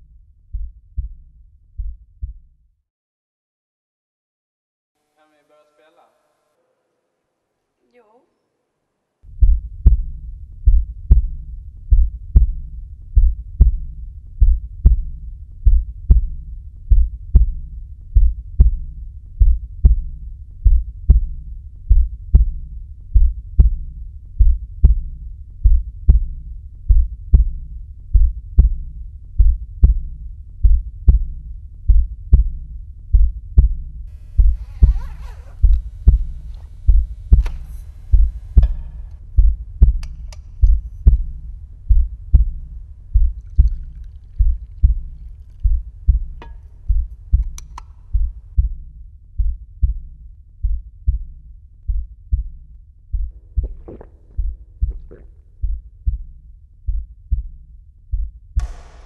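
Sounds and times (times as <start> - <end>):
heartbeat thumps: 0.0 - 2.6, 9.3 - 59.0.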